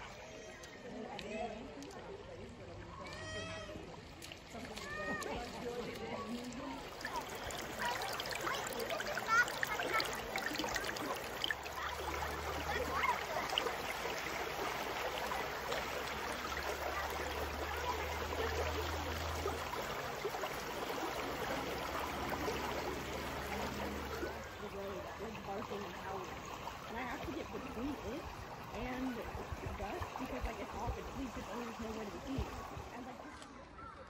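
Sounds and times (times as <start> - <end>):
river water flowing over rocks: 0.9 - 33.8.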